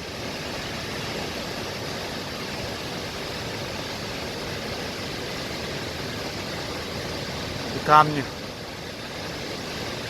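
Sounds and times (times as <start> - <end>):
water rushing down waterfalls: 0.0 - 10.0.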